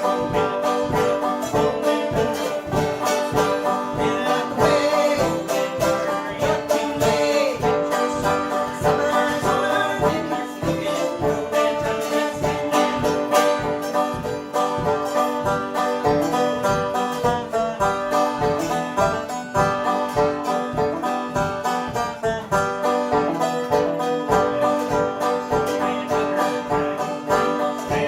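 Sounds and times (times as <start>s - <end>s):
banjo picking a lively tune: 0.0s - 28.0s.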